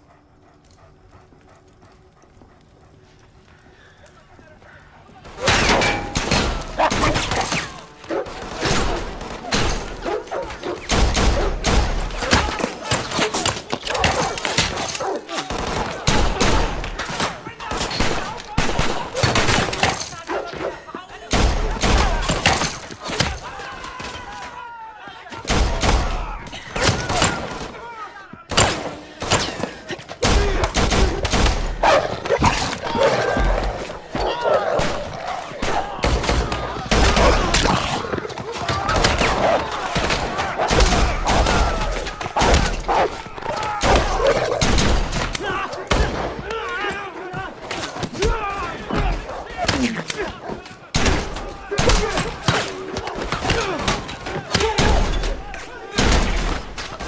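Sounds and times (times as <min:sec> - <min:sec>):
gunshots: 0:05.2 - 0:20.6, 0:21.2 - 0:24.4, 0:25.4 - 0:27.9, 0:28.5 - 0:34.0, 0:34.6 - 0:46.5, 0:49.0 - 0:57.0.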